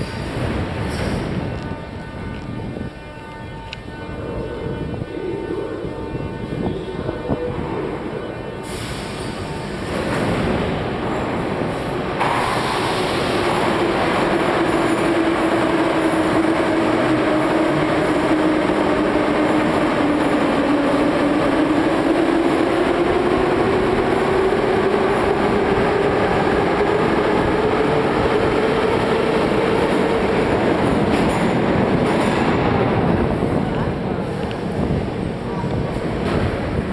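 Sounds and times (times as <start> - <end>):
train rumbling through station: 0.0 - 36.9.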